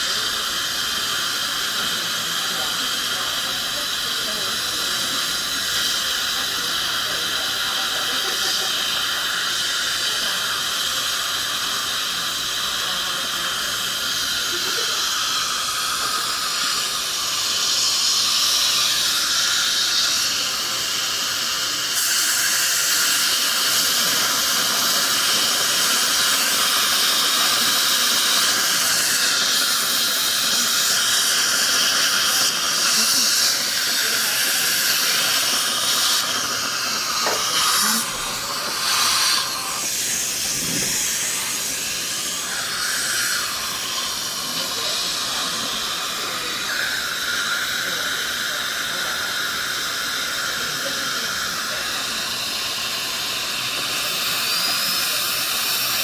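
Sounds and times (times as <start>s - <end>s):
dental equipment hissing: 0.0s - 56.0s.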